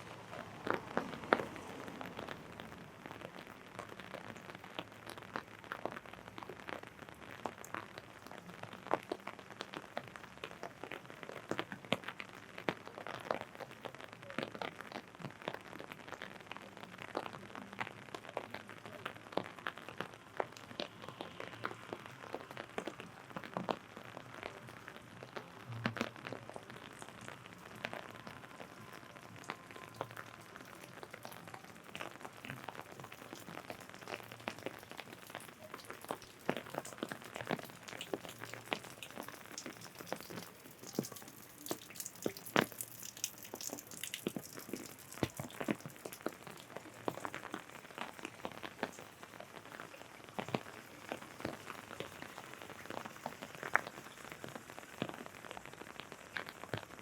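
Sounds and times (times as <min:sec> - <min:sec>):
raindrops tapping on umbrella: 0:00.0 - 0:57.0
steady hiss of rain: 0:00.0 - 0:57.0.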